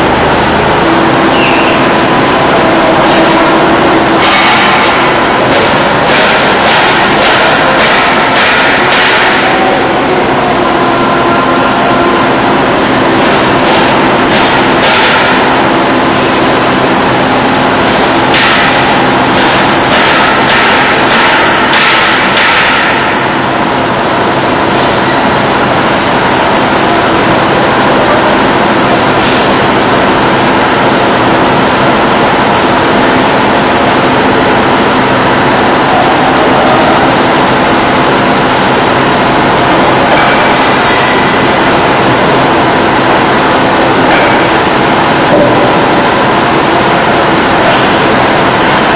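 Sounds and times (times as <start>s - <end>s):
heavy machinery drone: 0.0s - 48.9s
machinery clatter: 0.0s - 48.9s.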